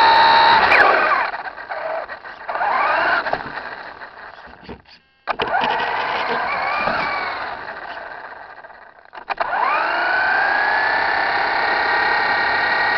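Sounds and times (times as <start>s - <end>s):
toy truck electric motor whining: 0.0s - 12.9s.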